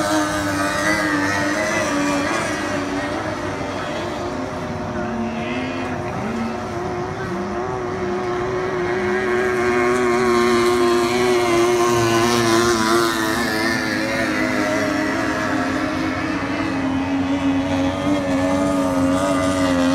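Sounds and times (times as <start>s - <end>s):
racing boat outboard engine: 0.0s - 19.9s.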